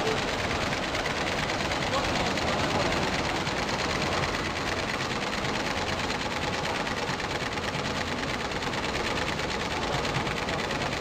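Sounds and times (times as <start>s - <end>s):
embroidery machine clattering: 0.0s - 11.0s.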